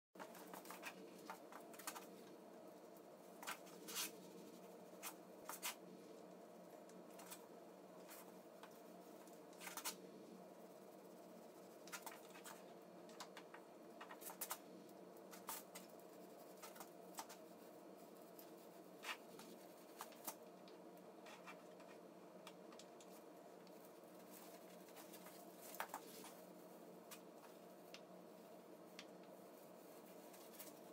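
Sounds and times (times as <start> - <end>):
low room hum: 0.2 - 30.9
paintbrush clicks and scratching: 0.2 - 30.9.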